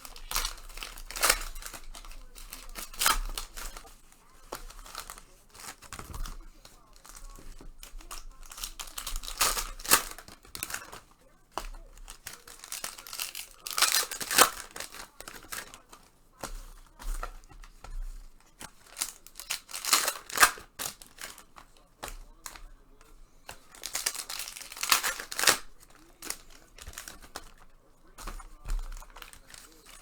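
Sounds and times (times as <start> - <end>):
card pack wrappers tearing: 0.0 - 30.0
wrappers crinkling: 0.0 - 30.0.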